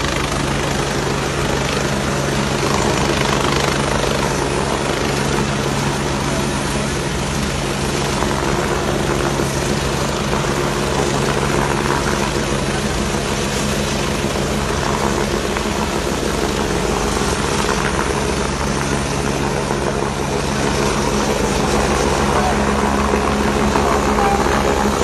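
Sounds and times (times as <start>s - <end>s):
helicopter hovering: 0.0s - 25.0s.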